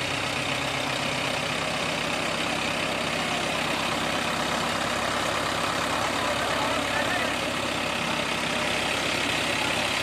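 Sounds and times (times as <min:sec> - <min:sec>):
tractor diesel engines idling: 0:00.0 - 0:10.0.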